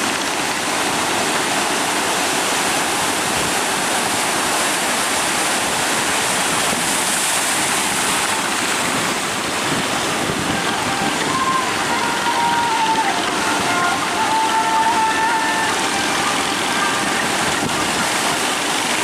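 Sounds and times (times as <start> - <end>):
heavy ocean surf breaking: 0.0 - 19.0.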